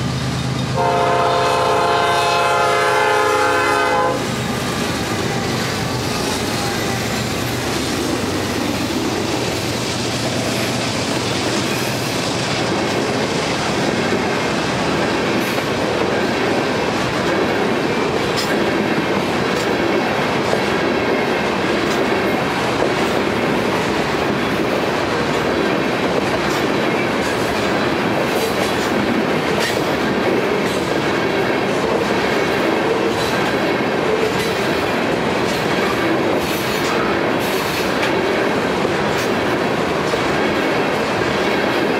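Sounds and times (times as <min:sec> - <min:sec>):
diesel locomotive engine: 0:00.0 - 0:41.9
train wheels rumbling: 0:00.0 - 0:41.9
wheels clicking over rail joints: 0:04.3 - 0:41.9.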